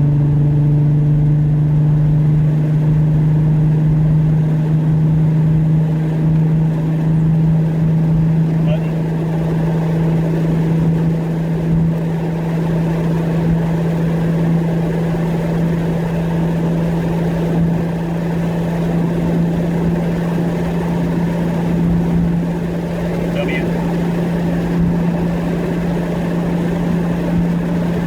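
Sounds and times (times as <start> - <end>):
car engine steady drone: 0.0 - 28.0.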